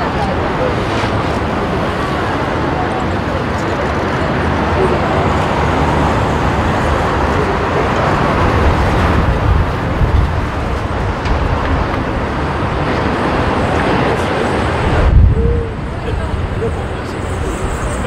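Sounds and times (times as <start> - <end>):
jet engines roaring: 0.0 - 18.0
wind buffeting microphone: 0.0 - 18.0.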